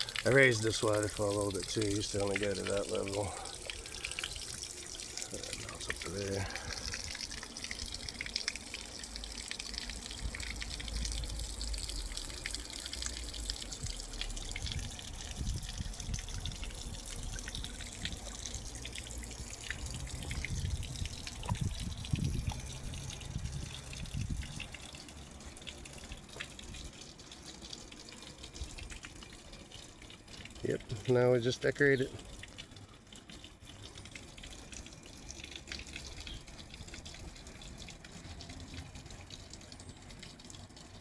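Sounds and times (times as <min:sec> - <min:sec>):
waterfall splashing into pond: 0:00.0 - 0:41.0.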